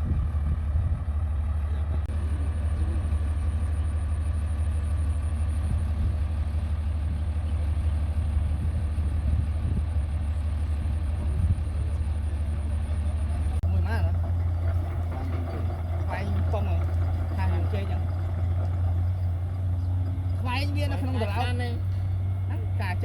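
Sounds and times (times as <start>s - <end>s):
heavy machine engine rumbling: 0.0s - 23.0s.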